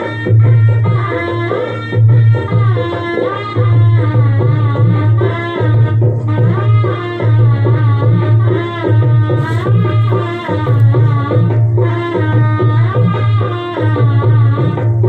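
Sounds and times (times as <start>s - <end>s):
tabla: 0.0s - 15.0s.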